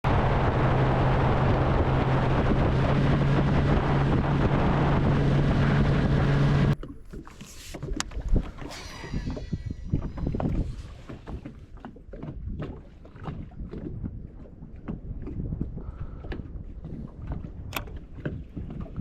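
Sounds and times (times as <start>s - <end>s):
heavy wind: 0.0s - 6.8s, 7.7s - 19.0s
boat engine hum: 0.0s - 19.0s
water noise: 0.0s - 19.0s.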